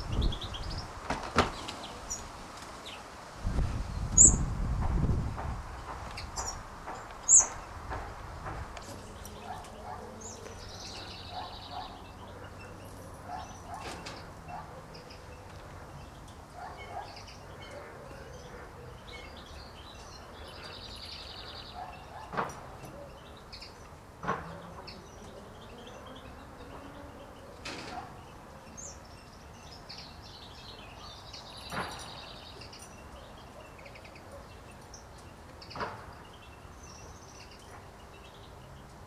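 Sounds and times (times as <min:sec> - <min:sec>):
small birds chirping and trilling: 0:00.0 - 0:04.7, 0:05.7 - 0:39.0.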